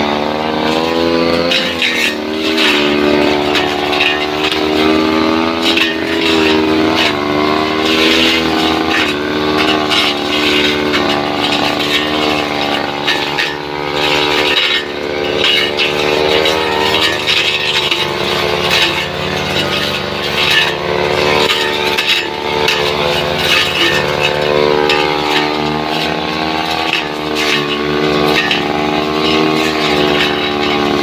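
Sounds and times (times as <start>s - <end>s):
blade rasping into grass and wood: 0.0s - 31.0s
brush cutter running: 0.0s - 31.0s.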